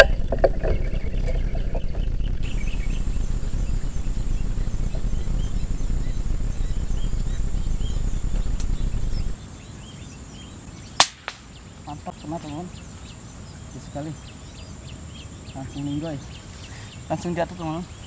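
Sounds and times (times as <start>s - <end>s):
insect drone: 0.0s - 18.0s
steady low rumble: 0.0s - 18.0s
faint bird chirps: 0.1s - 18.0s.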